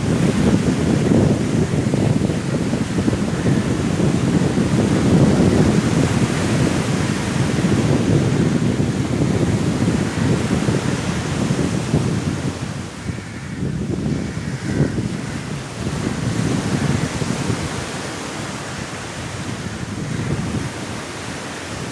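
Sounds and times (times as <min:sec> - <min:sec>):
sea waves breaking on shore: 0:00.0 - 0:13.6, 0:14.4 - 0:21.9
strong wind: 0:00.0 - 0:21.9.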